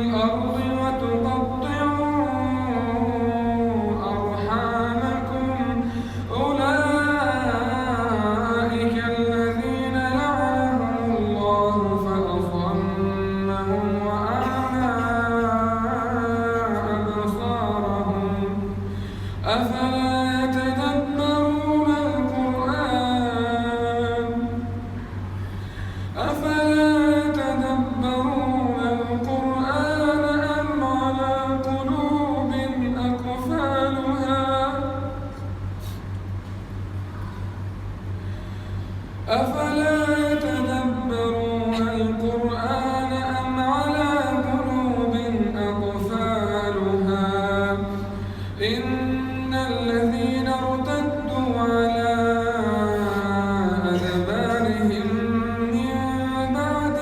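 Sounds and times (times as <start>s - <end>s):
man chanting melodically: 0.0s - 25.0s, 26.2s - 35.6s, 39.2s - 57.0s
steady low hum: 0.0s - 57.0s.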